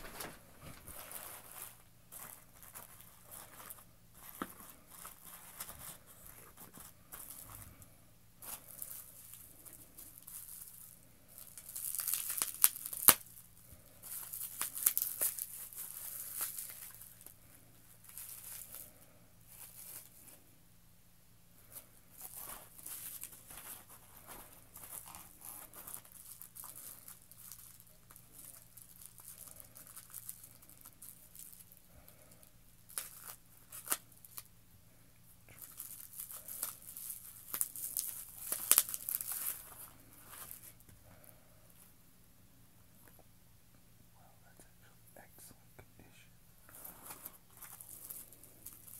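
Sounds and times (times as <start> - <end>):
bubble wrap crinkling and tearing: 0.0 - 20.5, 21.6 - 34.5, 35.5 - 41.3, 46.7 - 48.9.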